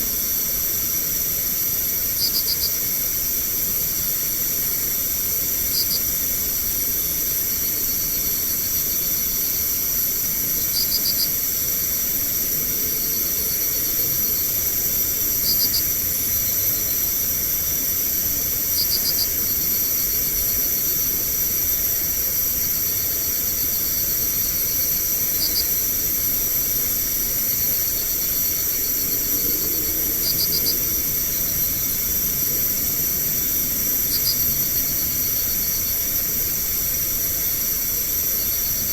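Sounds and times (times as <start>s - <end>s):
constant hiss: 0.0s - 38.9s
cricket chirping: 0.0s - 38.9s
insects droning: 0.0s - 38.9s.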